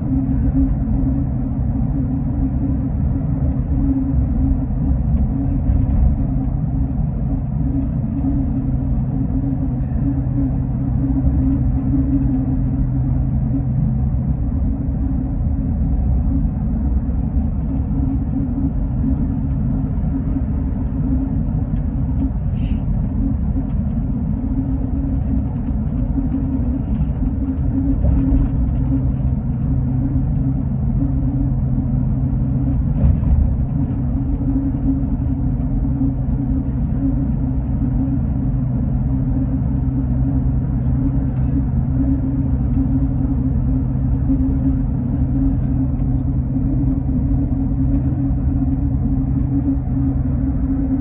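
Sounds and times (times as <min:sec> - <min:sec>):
bus engine and road rumble: 0:00.0 - 0:51.0
low hum: 0:00.0 - 0:51.0.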